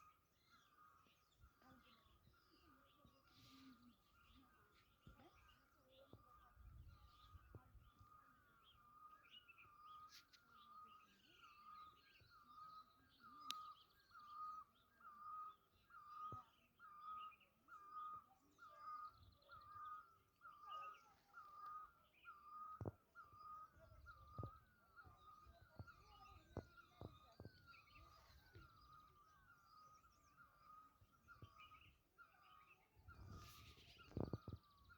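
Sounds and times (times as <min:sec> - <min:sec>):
faint chirps of other birds: 0:00.0 - 0:34.9.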